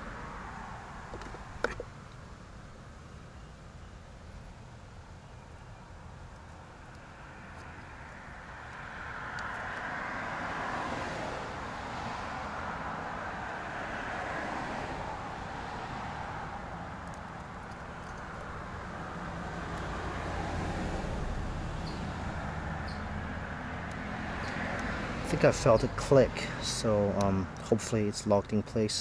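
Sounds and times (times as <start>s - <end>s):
road traffic rushing: 0.0s - 2.9s, 4.9s - 29.0s.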